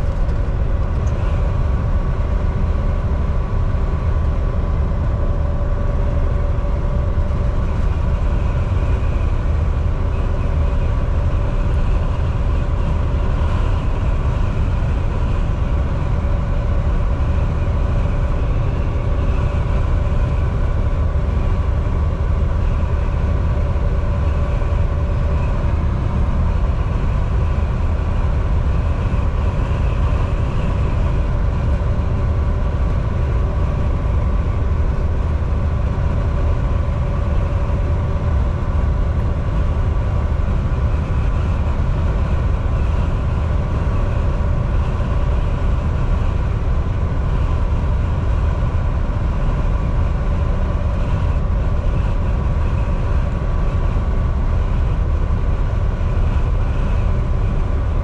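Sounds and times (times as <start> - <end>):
faint steady whine: 0.0 - 58.0
truck engine and road rumble: 0.0 - 58.0.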